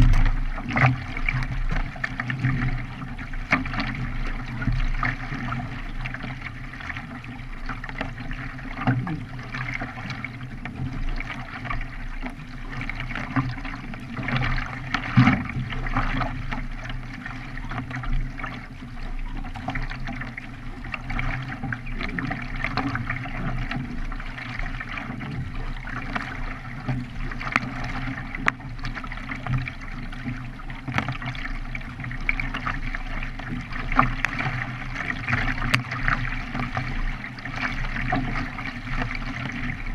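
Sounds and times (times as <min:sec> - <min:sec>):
paddle splashing water: 0:00.0 - 0:39.9
water trickling: 0:00.0 - 0:39.9.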